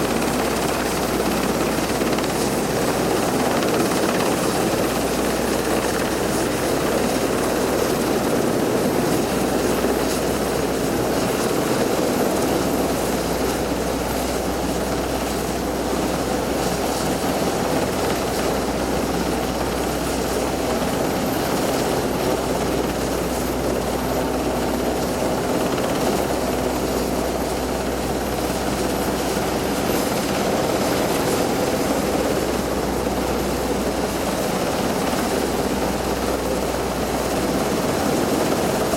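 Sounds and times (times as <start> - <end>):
helicopter rotors and engines: 0.0 - 38.9.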